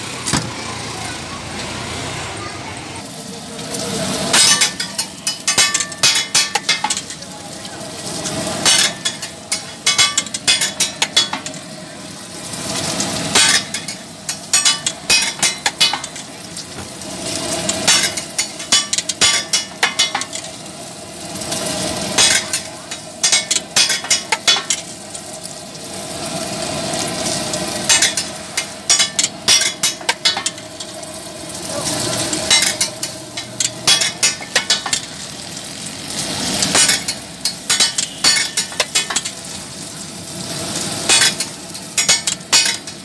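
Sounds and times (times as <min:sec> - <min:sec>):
food sizzling on griddle: 0:00.0 - 0:43.0.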